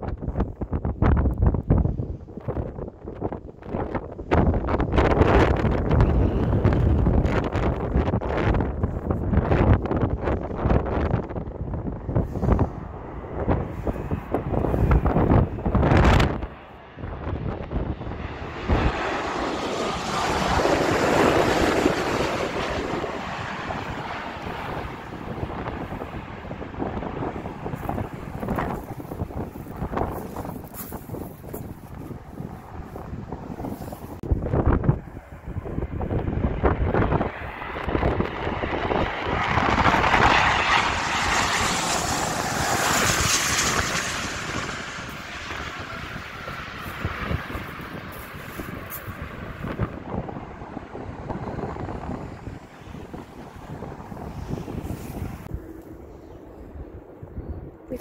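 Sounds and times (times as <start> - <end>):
jet airliner passing overhead: 0.0 - 58.0
wind on microphone: 0.0 - 58.0.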